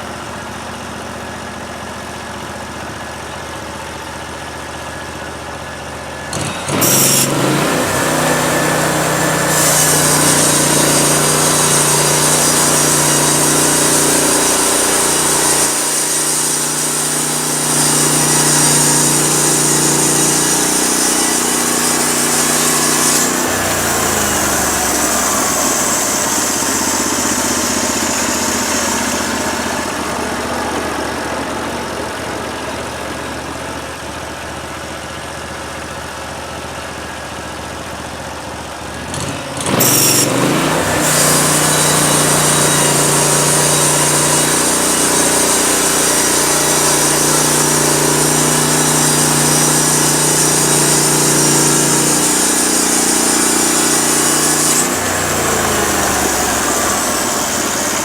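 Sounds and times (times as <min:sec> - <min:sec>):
gas engine running: 0:00.0 - 0:58.0.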